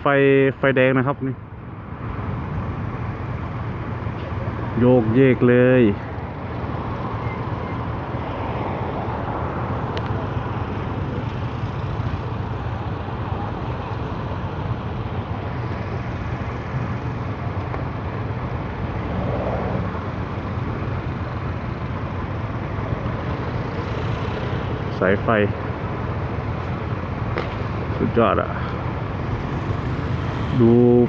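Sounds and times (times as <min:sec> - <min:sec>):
vehicle engine and road noise: 0:00.0 - 0:31.0
rush of strong wind: 0:05.8 - 0:31.0.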